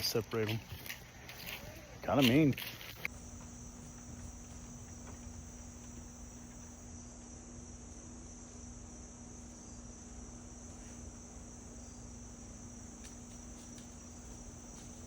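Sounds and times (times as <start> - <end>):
crickets trilling: 0.0 - 15.0
faint low hum: 0.0 - 15.0.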